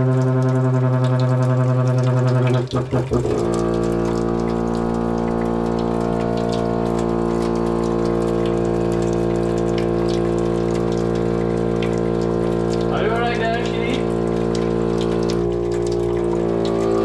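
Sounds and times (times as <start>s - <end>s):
tap water rushing: 0.0s - 17.0s
water pipes humming: 0.0s - 17.0s.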